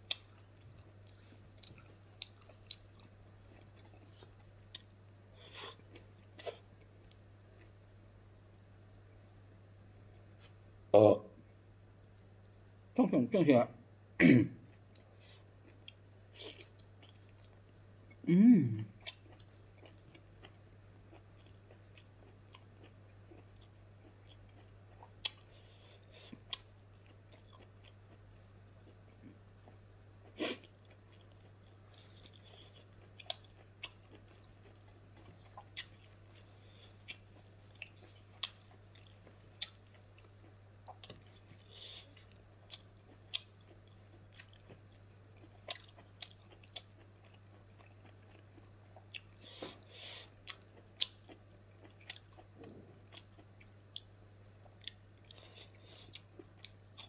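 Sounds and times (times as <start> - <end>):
person chewing with soft smacks: 0.0 - 9.2, 9.9 - 10.8, 11.4 - 12.9, 14.6 - 18.2, 18.8 - 57.0
faint low hum: 0.0 - 57.0.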